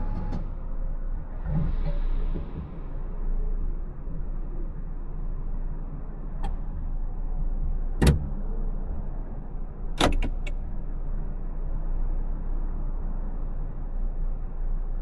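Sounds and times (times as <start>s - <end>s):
car cabin rumble: 0.0s - 12.9s.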